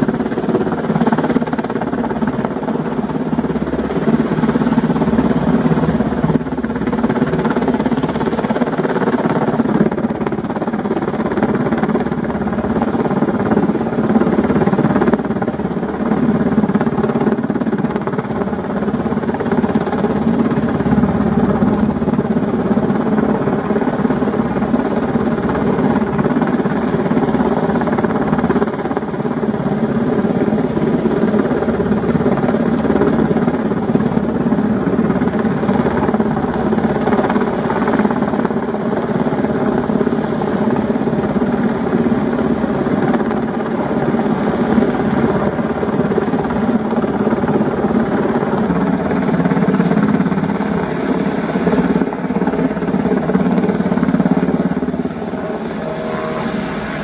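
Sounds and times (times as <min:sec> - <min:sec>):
helicopter hovering overhead: 0:00.0 - 0:57.0.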